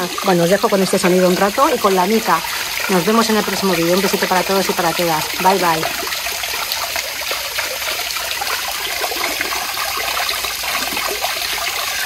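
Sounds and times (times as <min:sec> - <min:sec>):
waterfall splashing into pond: 0:00.0 - 0:12.0.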